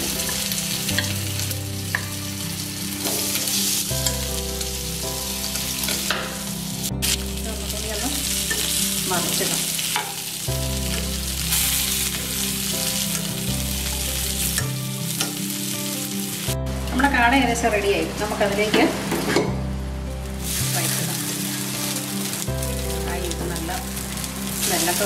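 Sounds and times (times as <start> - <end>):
meat sizzling in a pan: 0.0 - 16.5, 20.3 - 25.0.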